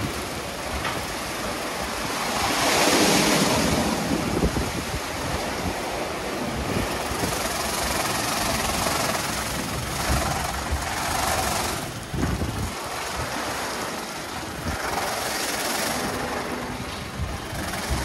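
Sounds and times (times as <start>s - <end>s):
car wash water spraying: 0.0s - 18.0s.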